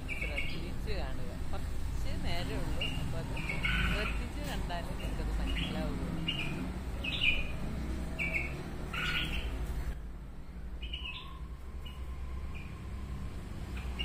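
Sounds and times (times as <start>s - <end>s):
birds chirping: 0.0s - 10.0s, 10.7s - 14.0s.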